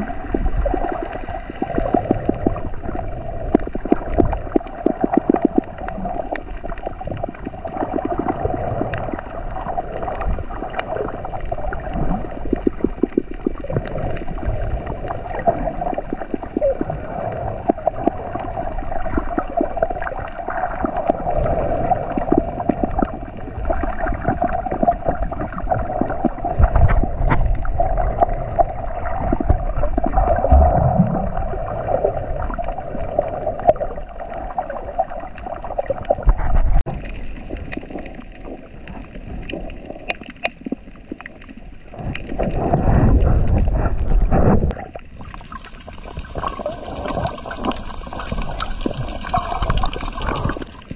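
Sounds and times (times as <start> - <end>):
underwater gurgling and bubbles: 0.0 - 50.9.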